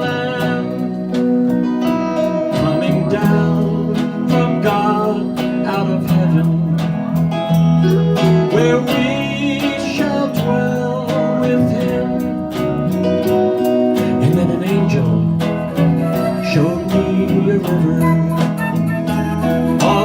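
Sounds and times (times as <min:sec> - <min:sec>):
acoustic band playing live: 0:00.0 - 0:20.0.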